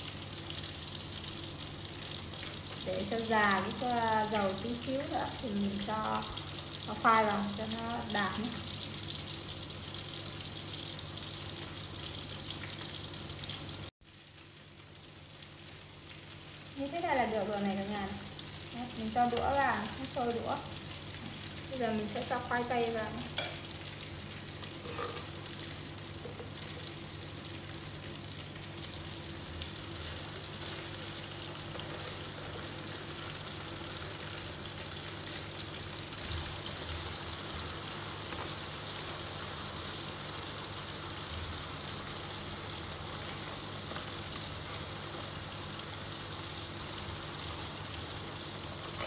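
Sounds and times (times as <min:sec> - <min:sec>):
oil sizzling in frying pan: 0:00.0 - 0:49.0.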